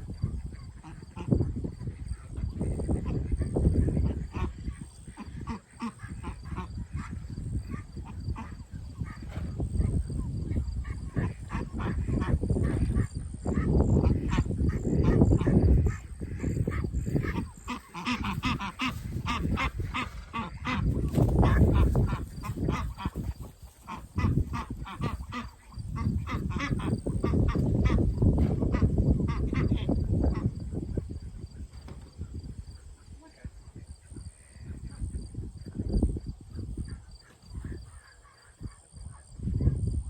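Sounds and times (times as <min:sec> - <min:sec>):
ducks quacking: 0:00.1 - 0:39.5.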